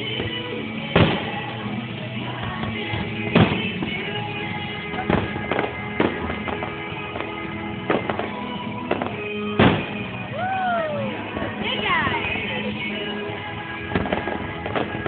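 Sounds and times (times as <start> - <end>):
background music: 0.0 - 15.0
fireworks bursting: 0.0 - 15.0.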